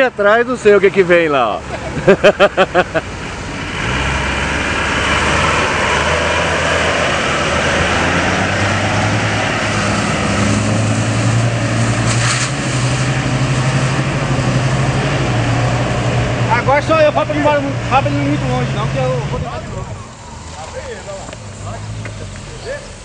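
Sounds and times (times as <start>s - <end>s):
engine pulling under load: 1.6s - 23.0s.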